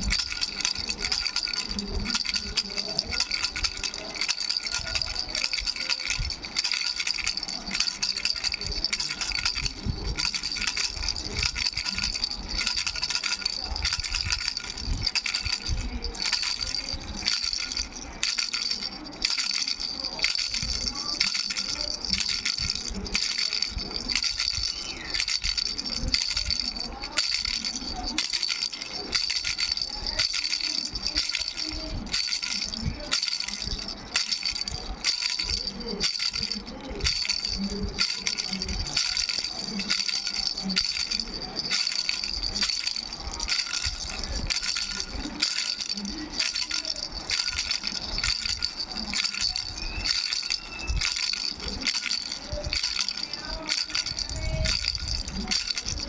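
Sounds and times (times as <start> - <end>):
baby rattle bells jingling: 0.0 - 56.0
rattle clattering: 0.0 - 56.0.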